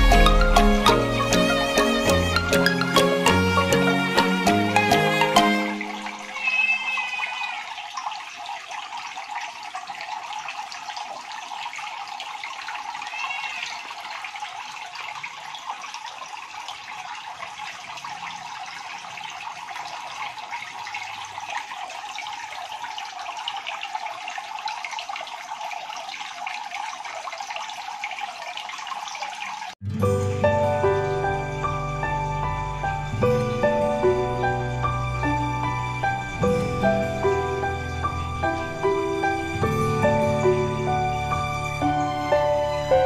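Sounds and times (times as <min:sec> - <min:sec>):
bubbling churning aquarium water: 0:00.0 - 0:29.8, 0:32.1 - 0:43.0.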